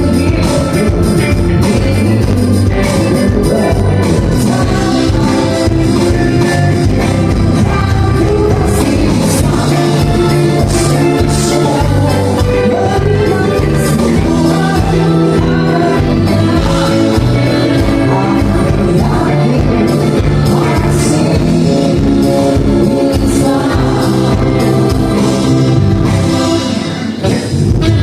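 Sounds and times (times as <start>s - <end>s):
live band playing: 0.0s - 28.0s
person singing: 0.0s - 28.0s.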